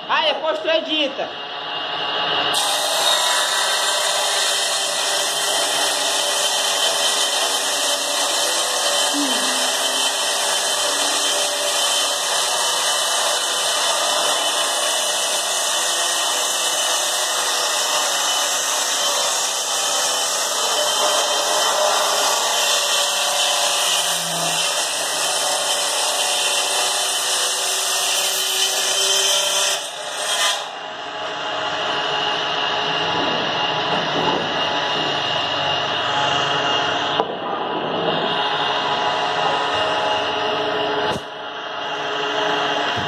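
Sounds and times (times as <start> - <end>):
woodworking machine whirring: 1.4 - 43.0.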